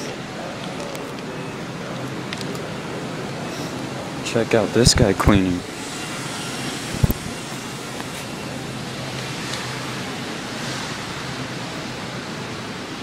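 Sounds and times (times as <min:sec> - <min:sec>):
floor-cleaning machine running: 0:00.0 - 0:13.0.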